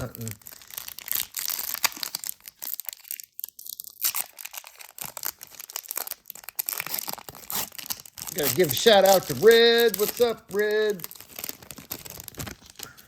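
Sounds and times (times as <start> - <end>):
card packaging crinkling: 0.0 - 13.0.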